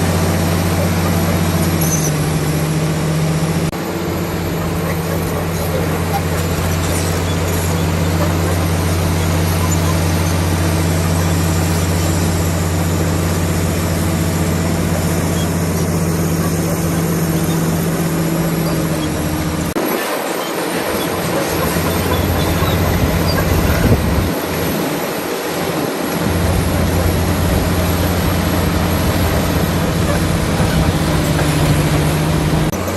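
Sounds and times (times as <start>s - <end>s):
steel tracks clanking and squealing: 0.0s - 2.5s, 4.2s - 32.9s
bulldozer diesel engine droning: 0.0s - 32.9s.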